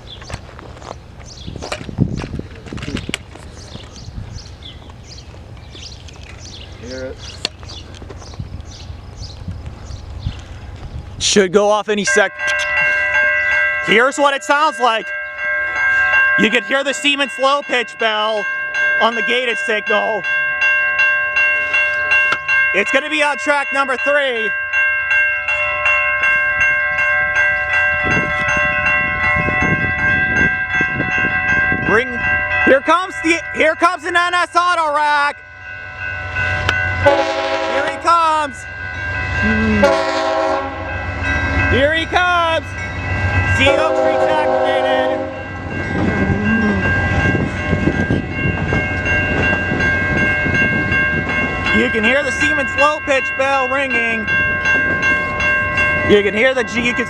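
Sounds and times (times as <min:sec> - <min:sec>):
approaching freight train rumble: 0:00.0 - 0:57.0
railroad crossing bells ringing: 0:00.0 - 0:57.0.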